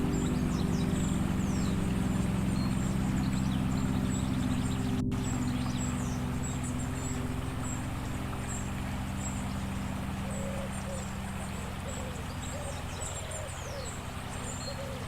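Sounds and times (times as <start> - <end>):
meditation music drone: 0.0 - 15.0.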